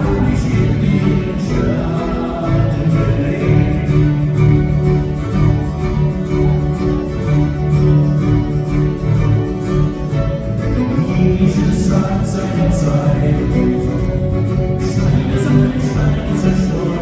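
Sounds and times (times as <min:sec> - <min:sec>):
guitar: 0:00.0 - 0:17.0
live band playing: 0:00.0 - 0:17.0
steady bass line: 0:00.0 - 0:17.0.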